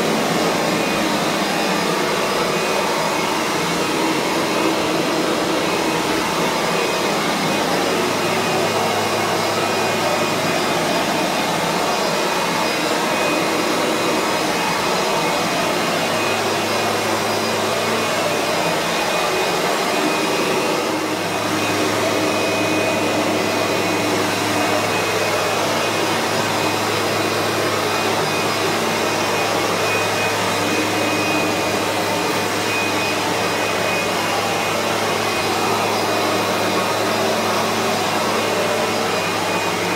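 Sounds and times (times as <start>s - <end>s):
high whine: 0.0s - 39.9s
upright vacuum running: 0.0s - 39.9s.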